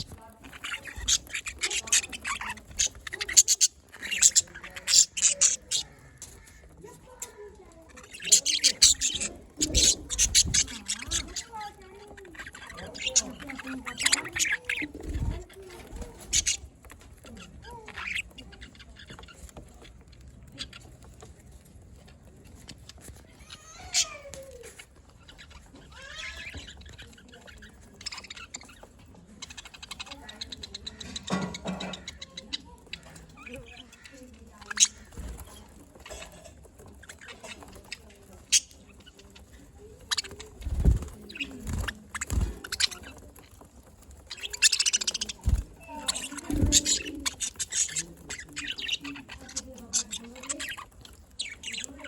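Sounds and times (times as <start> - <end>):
budgies chirping: 0.0 - 52.0.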